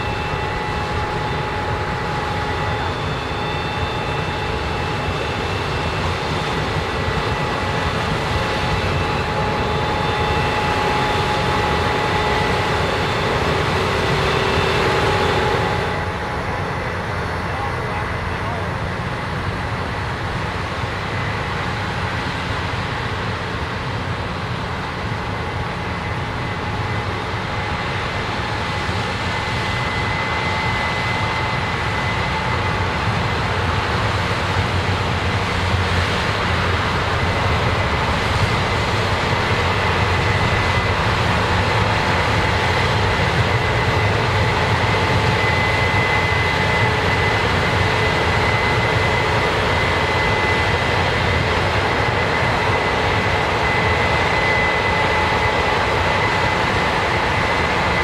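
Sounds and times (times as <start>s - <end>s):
high mechanical whine: 0.0s - 58.0s.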